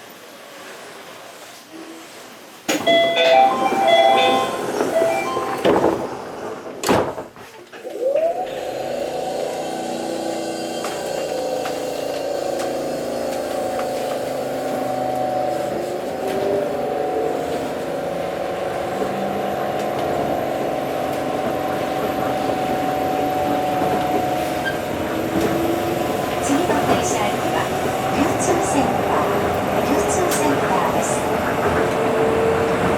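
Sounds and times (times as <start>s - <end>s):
train running rumble: 2.9s - 7.2s, 9.6s - 32.9s.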